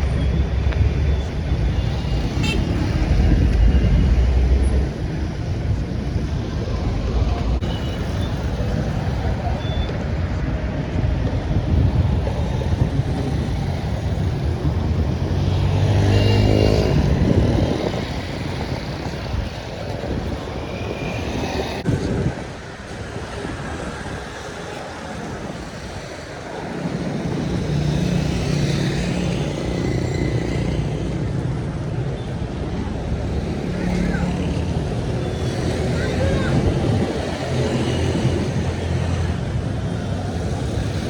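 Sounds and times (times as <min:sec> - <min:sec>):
vehicle engines passing: 0:00.0 - 0:41.0.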